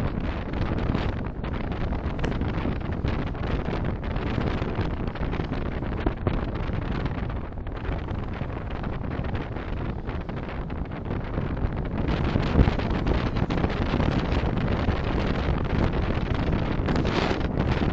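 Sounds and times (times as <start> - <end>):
wind noise: 0.0 - 17.9.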